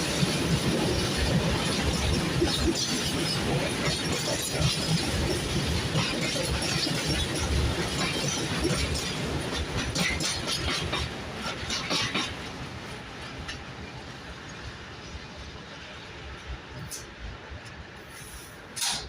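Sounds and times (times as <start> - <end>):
train rumble: 0.0 - 19.0
train wheels clattering on rails: 0.0 - 19.0.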